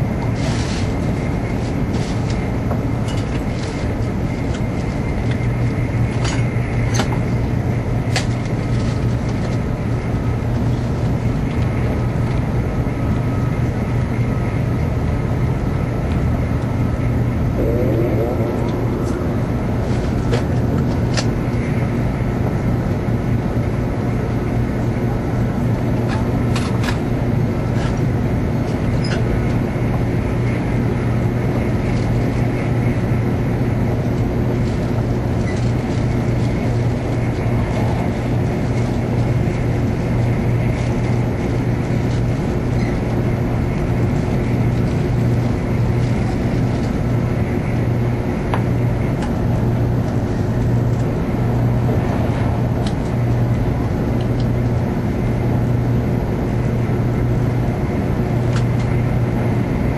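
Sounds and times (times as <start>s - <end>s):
train cabin rumble: 0.0s - 59.9s.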